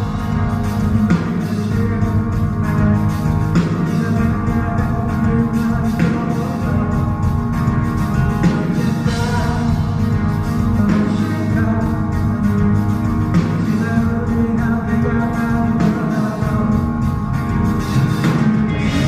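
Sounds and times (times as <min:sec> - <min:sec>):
man singing: 0:00.0 - 0:07.5, 0:08.3 - 0:19.0
drums: 0:00.0 - 0:19.0
electric guitar: 0:00.0 - 0:19.0
live rock band playing: 0:00.0 - 0:19.0.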